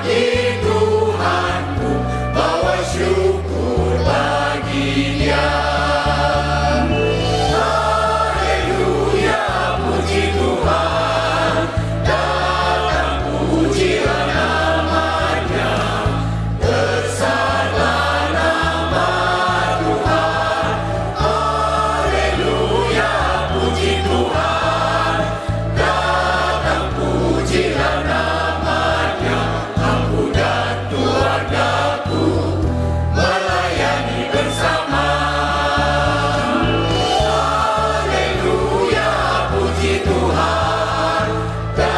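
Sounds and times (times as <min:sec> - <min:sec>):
instrumental accompaniment with bass line: 0:00.0 - 0:41.9
mixed choir singing a hymn: 0:00.0 - 0:41.9.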